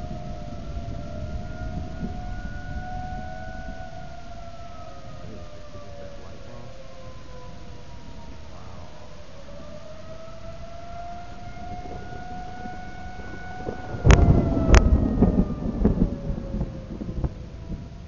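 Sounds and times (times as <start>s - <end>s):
thunder cracks and rumbling: 0.0s - 18.0s
warning siren wailing: 0.0s - 18.0s.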